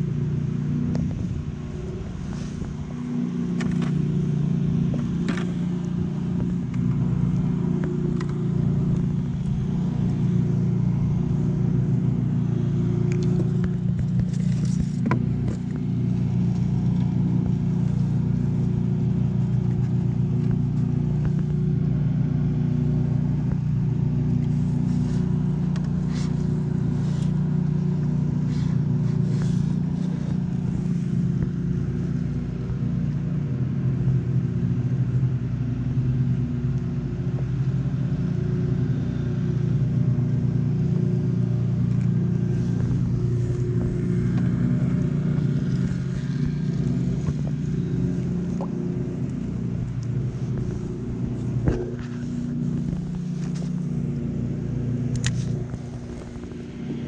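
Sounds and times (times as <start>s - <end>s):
low engine drone: 0.0s - 57.0s.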